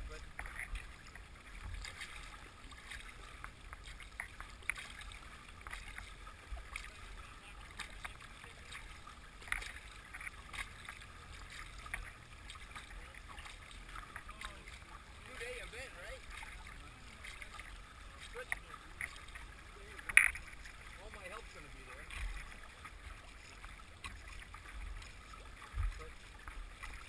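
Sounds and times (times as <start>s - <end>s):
small splashes and drips: 0.0s - 27.0s
water gurgling along boat hull: 0.0s - 27.0s.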